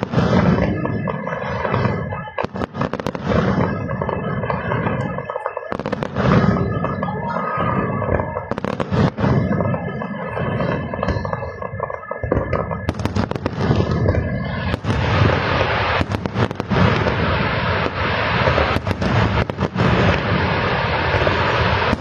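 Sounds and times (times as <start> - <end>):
fireworks sharp bangs: 0.0 - 22.0
rumble of fireworks explosions: 0.0 - 22.0.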